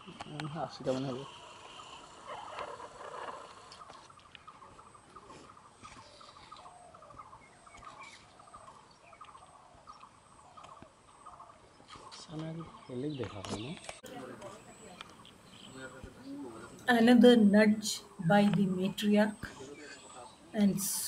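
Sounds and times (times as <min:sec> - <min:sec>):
faint bird chirping: 0:00.3 - 0:21.0.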